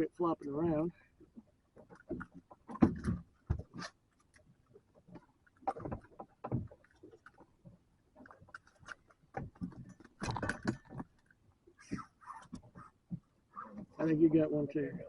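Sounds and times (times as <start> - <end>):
knocks and clatters on boat: 0.0 - 15.0.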